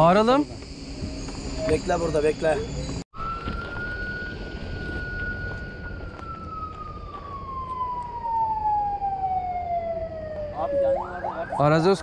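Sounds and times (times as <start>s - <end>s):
siren winding down: 1.6s - 12.0s.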